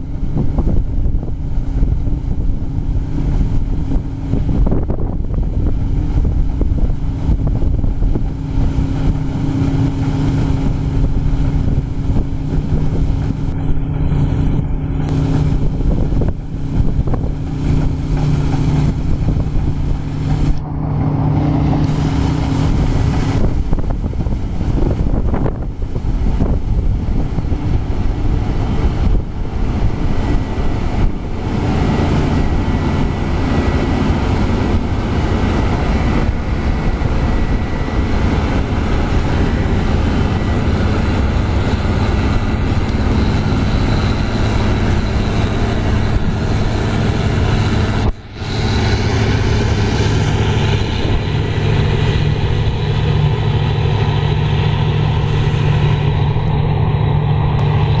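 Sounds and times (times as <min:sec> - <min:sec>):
diesel engine running: 0:00.0 - 0:58.0
wind buffeting microphone: 0:00.0 - 0:58.0.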